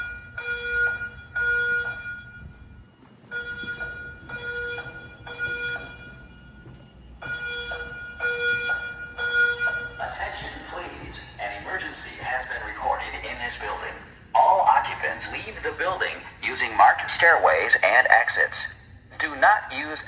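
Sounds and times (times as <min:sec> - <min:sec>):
fire alarm evacuation tones: 0:00.0 - 0:20.0.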